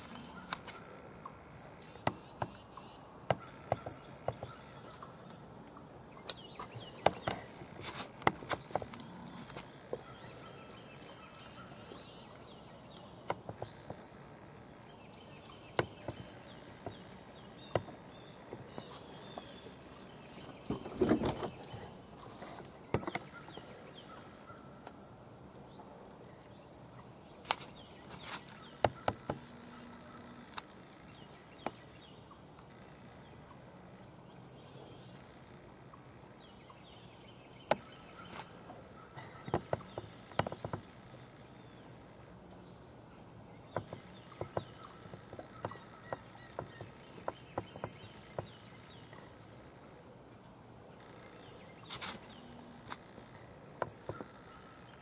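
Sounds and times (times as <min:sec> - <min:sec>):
outdoor field ambience: 0:00.0 - 0:55.0.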